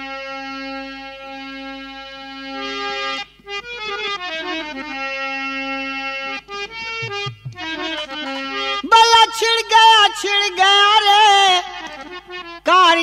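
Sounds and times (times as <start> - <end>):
harmonium playing: 0.0 - 13.0.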